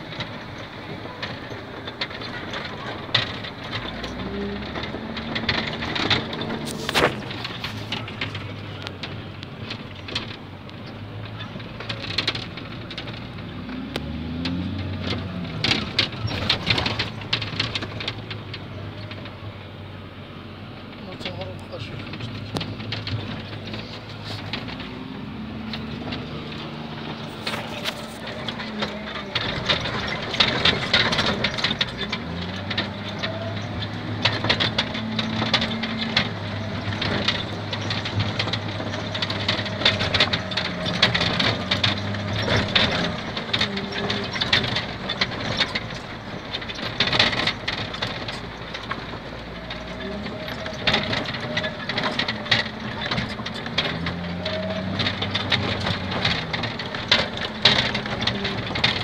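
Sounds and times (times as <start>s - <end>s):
diesel engine running: 0.0s - 59.0s
rattles and knocks: 0.0s - 59.0s.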